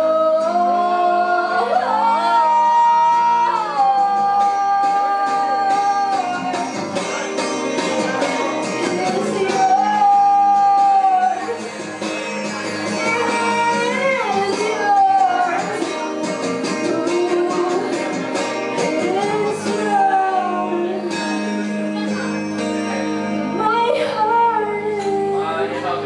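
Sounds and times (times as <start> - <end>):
woman singing into a microphone: 0.0 - 21.7, 23.4 - 26.0
strummed guitar: 0.0 - 26.0.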